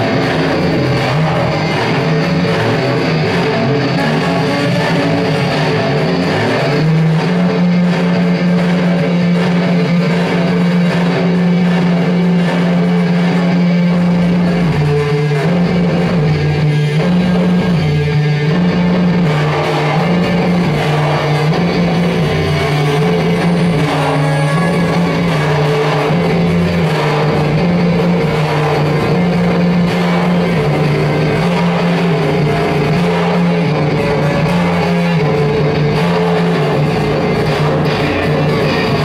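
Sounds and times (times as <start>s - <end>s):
loud live music: 0.0s - 39.0s
low bass figure: 0.0s - 39.0s.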